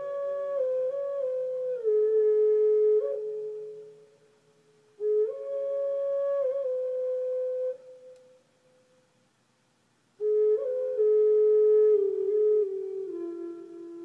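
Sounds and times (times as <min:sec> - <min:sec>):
flute playing slow melody: 0:00.0 - 0:09.0, 0:10.2 - 0:14.0.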